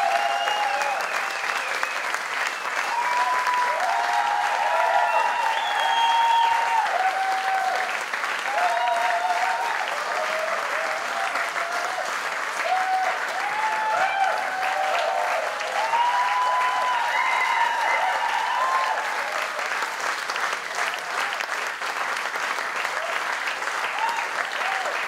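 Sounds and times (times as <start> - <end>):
audience cheering: 0.0 - 21.8, 22.7 - 25.0
audience clapping: 0.0 - 25.0.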